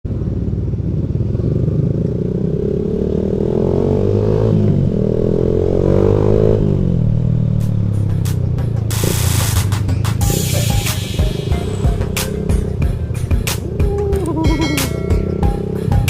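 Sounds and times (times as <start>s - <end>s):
vehicle engine accelerating: 0.1s - 16.0s.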